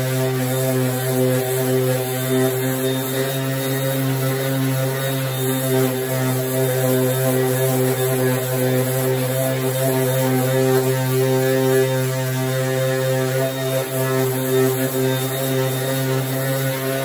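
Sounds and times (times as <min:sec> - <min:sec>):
orbital sander grinding: 0:00.0 - 0:17.0.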